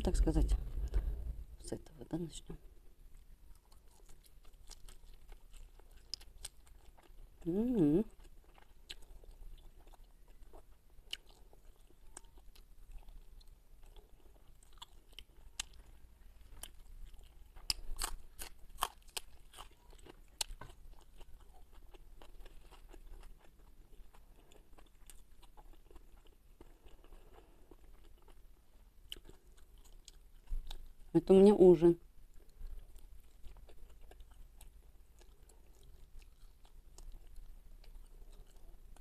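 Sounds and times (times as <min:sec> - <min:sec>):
chewing fried fish: 0:02.6 - 0:31.1, 0:32.0 - 0:39.0.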